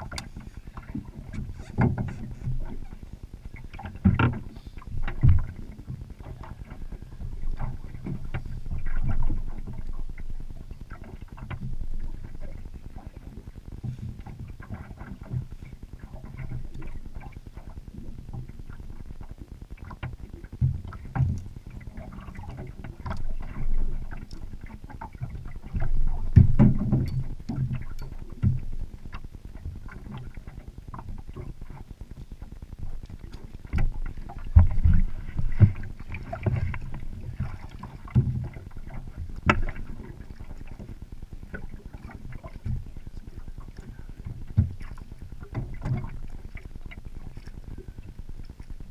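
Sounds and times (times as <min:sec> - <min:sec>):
wind and water rumble: 0:00.0 - 0:48.9.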